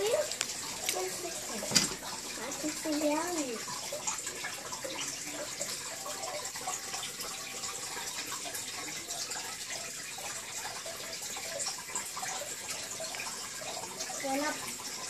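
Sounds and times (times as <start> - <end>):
aquarium water splashing and trickling: 0.0 - 15.0.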